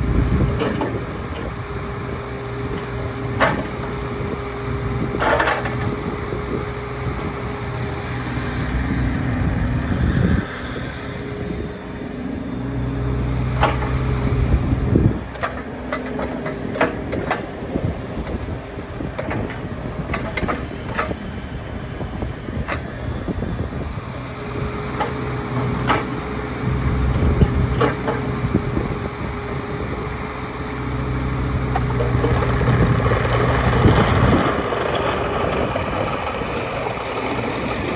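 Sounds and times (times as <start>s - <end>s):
excavator diesel engine running: 0.0s - 37.9s
excavator tracks moving: 0.0s - 37.9s.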